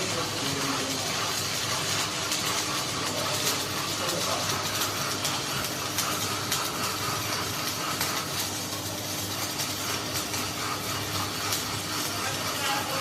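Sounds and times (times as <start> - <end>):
machine hum and hiss: 0.0 - 13.0
sharp ticks and clicks: 0.0 - 13.0.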